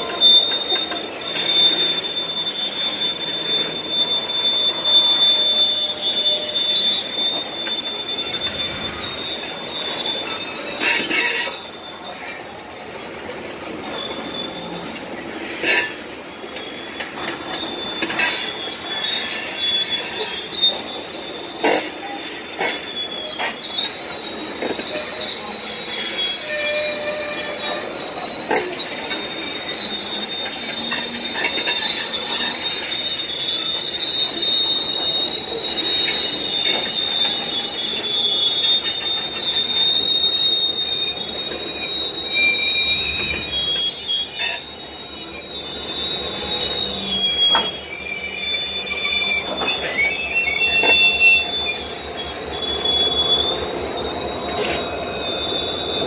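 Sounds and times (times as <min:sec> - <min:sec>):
diesel locomotive rumble: 0:00.0 - 0:56.0
train wheels squealing: 0:00.0 - 0:56.0.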